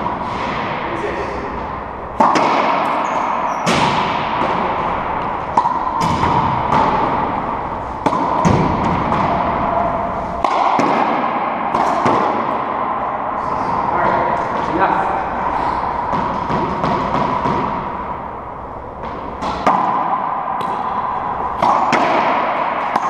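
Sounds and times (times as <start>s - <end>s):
racquetball hits echoing: 0.0s - 23.0s.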